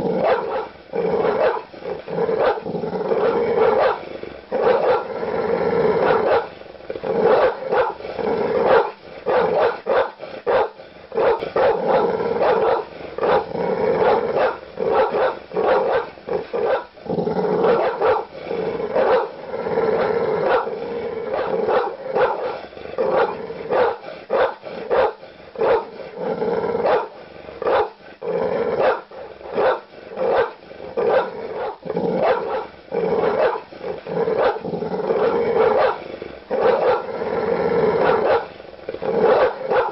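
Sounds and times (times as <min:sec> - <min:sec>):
large dog barking aggressively: 0:00.0 - 0:39.9.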